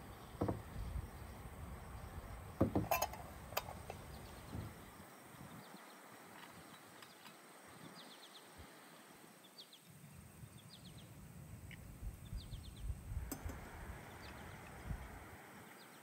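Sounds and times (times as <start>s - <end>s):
small bird chirping: 0.0s - 8.5s, 9.4s - 13.4s, 14.0s - 14.8s
faint steady high whine: 0.0s - 16.0s.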